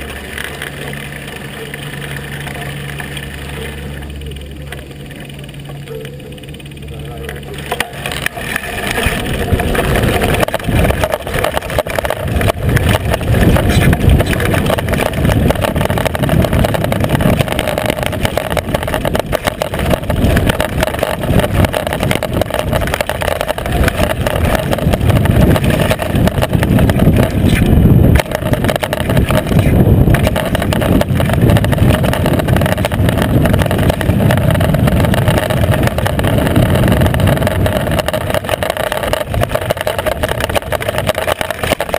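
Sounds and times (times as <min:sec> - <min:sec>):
bike rattling and knocking: 0:00.0 - 0:41.9
tyres crunching over gravel: 0:00.0 - 0:41.9
wind rumble on microphone: 0:08.0 - 0:41.9.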